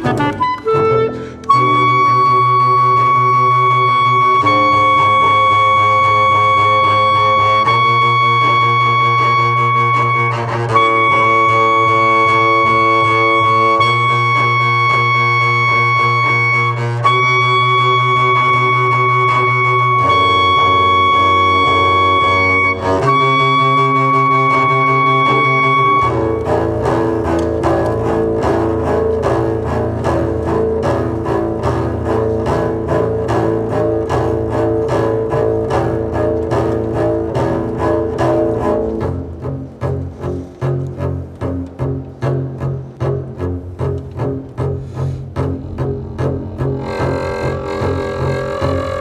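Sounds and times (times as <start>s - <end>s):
clarinet sustained tones: 0.0s - 49.0s
double bass sustained tones: 0.0s - 49.0s.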